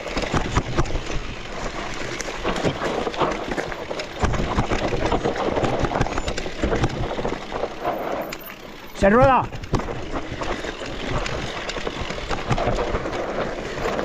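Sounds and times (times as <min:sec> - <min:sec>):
bike rattling: 0:00.0 - 0:14.0
tyres on dirt and rocks: 0:00.0 - 0:14.0.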